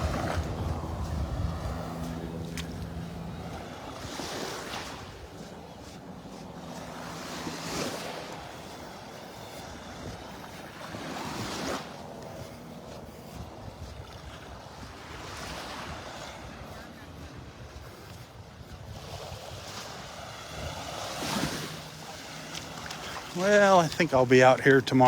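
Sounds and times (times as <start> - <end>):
low motor hum: 0.0 - 17.8, 18.6 - 25.0
wind on microphone: 0.0 - 24.6
small waves breaking: 0.0 - 25.0.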